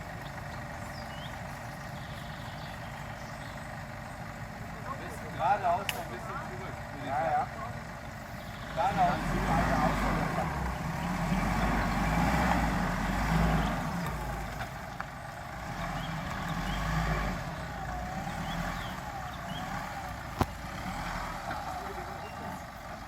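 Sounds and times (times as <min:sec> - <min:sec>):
off-road engine under load: 0:00.0 - 0:23.0.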